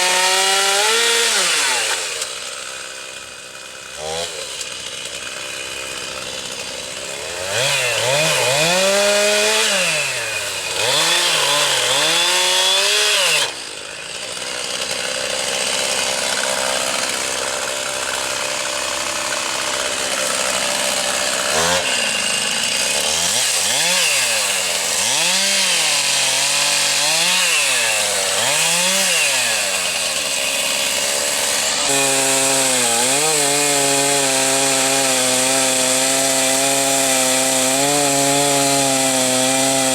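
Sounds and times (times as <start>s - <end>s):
chainsaw revving cutting wood: 0.0s - 39.9s.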